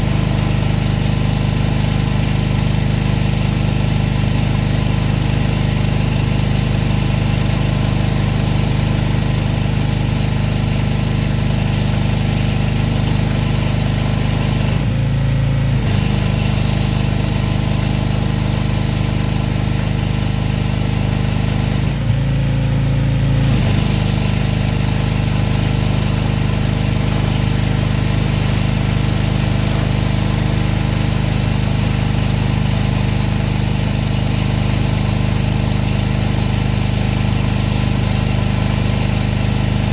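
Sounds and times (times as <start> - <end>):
water spray hissing: 0.0 - 2.6, 7.4 - 14.8, 15.8 - 21.8, 23.4 - 39.9
pressure washer engine running: 0.0 - 39.9.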